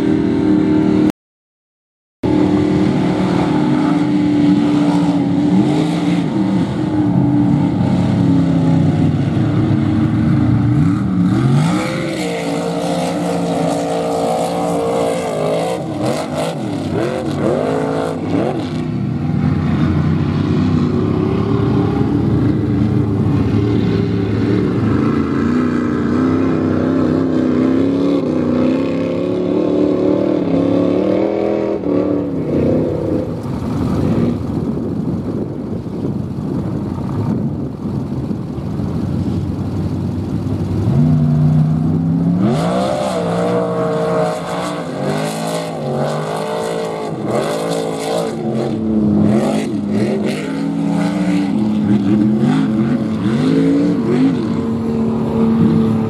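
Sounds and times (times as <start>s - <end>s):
truck engines revving: 0.0s - 1.1s, 2.2s - 56.0s.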